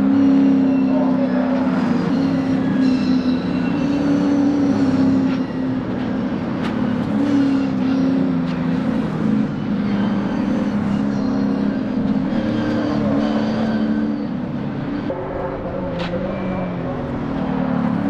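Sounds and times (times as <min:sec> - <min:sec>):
race cars at high revs: 0:00.0 - 0:18.0.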